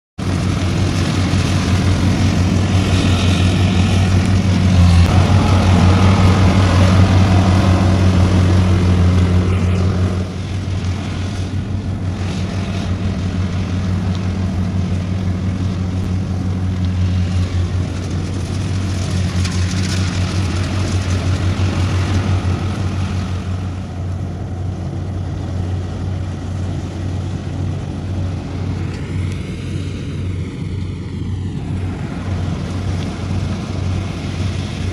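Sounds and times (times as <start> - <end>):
combine harvester running: 0.2 - 34.9.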